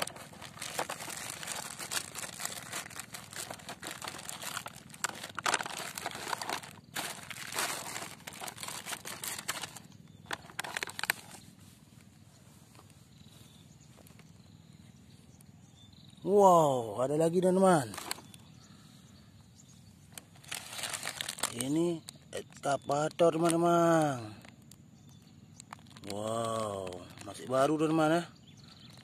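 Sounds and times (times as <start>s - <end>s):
crinkling crackling rustle: 0.0s - 15.5s, 17.3s - 18.6s, 19.9s - 29.0s.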